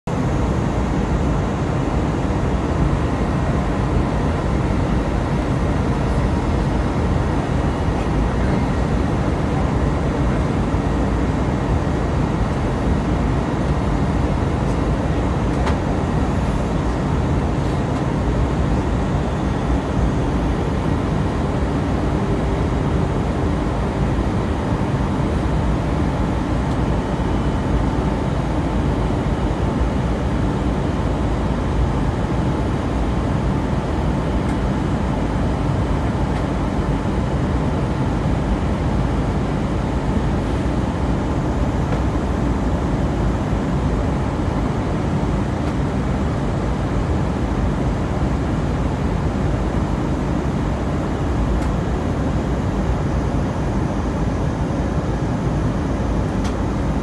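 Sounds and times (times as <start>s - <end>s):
airliner cabin engine rumble: 0.1s - 57.0s.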